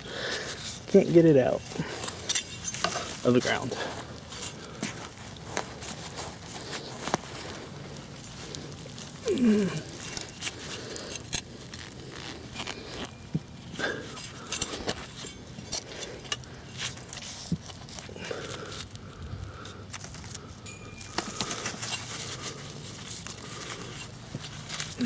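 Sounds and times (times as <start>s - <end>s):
digging in garden soil: 0.0s - 25.0s.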